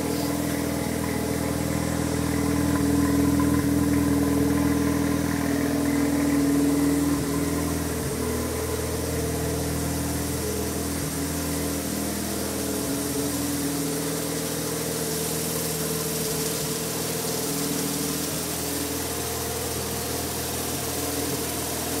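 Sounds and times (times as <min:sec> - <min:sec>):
rotary engine idling: 0:00.0 - 0:22.0.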